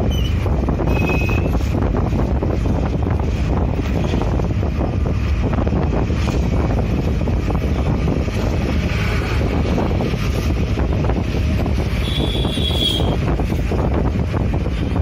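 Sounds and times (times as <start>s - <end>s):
road and engine rumble: 0.0s - 15.0s
wind buffeting microphone: 0.0s - 15.0s.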